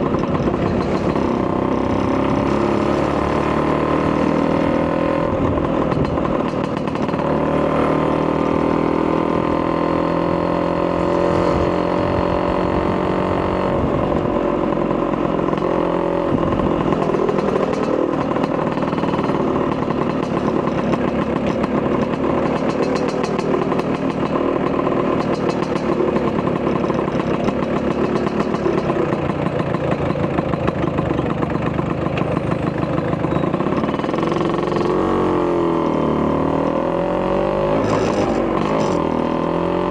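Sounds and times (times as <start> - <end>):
two-stroke scooter engine: 0.0 - 39.9.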